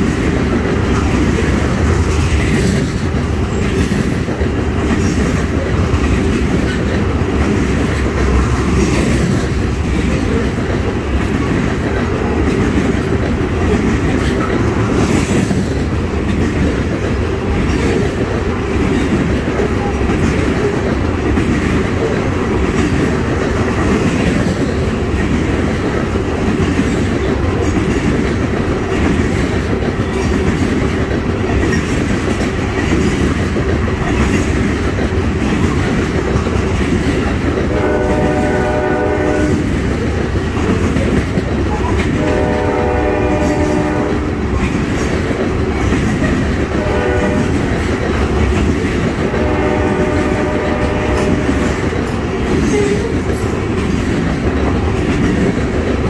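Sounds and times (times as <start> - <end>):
train wheels rumbling on rails: 0.0 - 56.0
wheels clickety-clack on track joints: 0.0 - 56.0.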